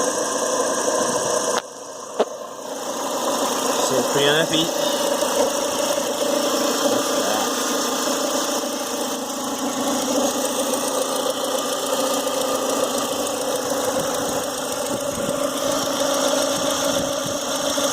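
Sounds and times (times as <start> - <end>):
car engine running: 0.0 - 17.9
engine knocking: 0.0 - 17.9.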